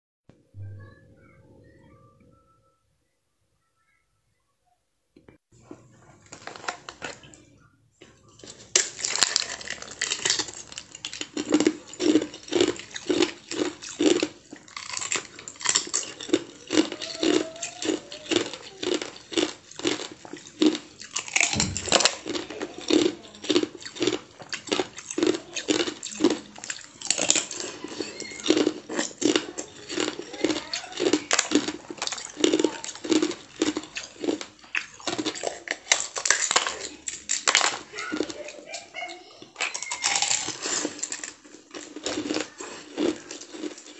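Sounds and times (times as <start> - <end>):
crunching and chewing ice: 6.0 - 7.4, 8.0 - 43.9.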